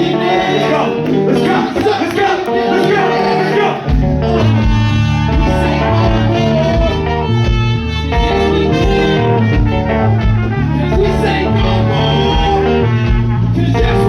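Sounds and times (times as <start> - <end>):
instrumental band music: 0.0 - 14.0.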